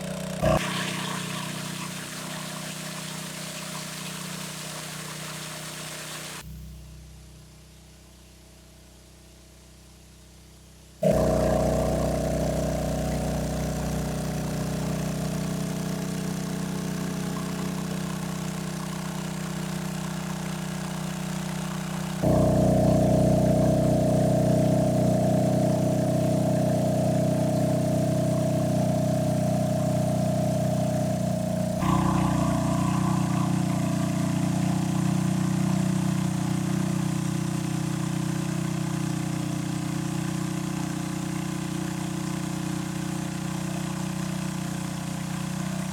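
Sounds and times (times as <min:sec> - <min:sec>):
small engine running: 0:00.0 - 0:06.8, 0:11.0 - 0:45.9.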